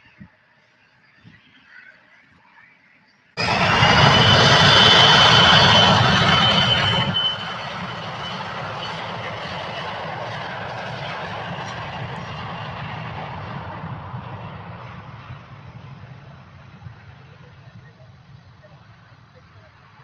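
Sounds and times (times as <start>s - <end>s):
jet engines roaring with high whine: 0.0s - 20.0s.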